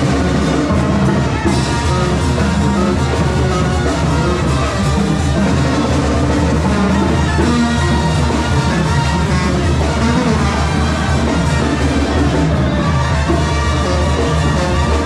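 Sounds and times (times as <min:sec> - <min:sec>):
loud instrumental music: 0:00.0 - 0:15.0.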